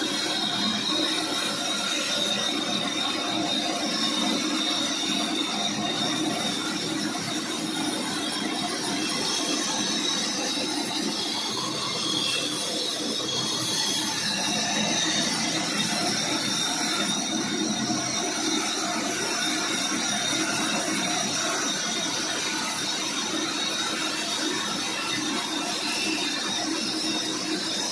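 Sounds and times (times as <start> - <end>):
sawmill saw cutting wood: 0.0 - 27.9.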